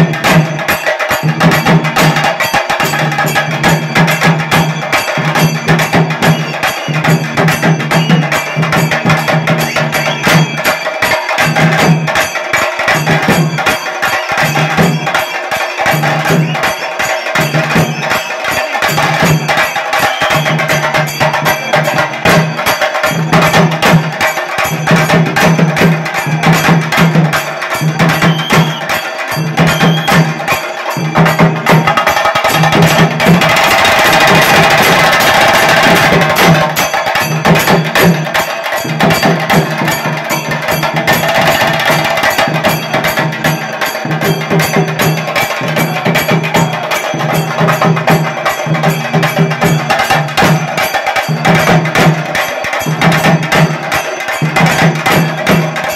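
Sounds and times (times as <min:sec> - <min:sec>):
drums playing fast rhythm: 0:00.0 - 0:55.9.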